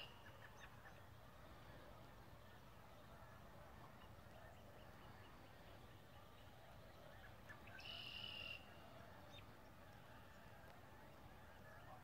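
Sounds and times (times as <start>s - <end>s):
distant bird calls: 0.0s - 12.0s.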